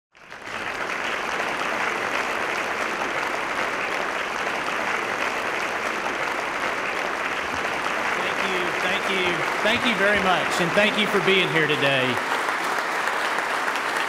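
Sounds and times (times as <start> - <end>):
audience applauding: 0.1 - 14.0.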